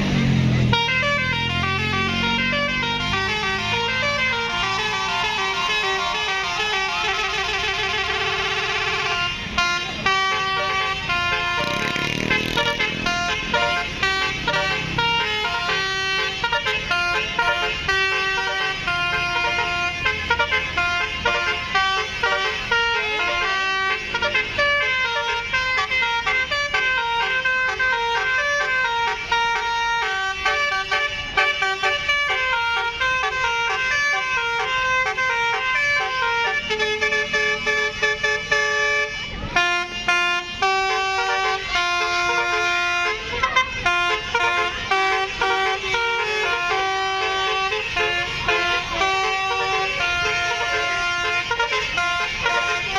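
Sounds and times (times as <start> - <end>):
multi-tone musical bus horns: 0.0 - 52.9.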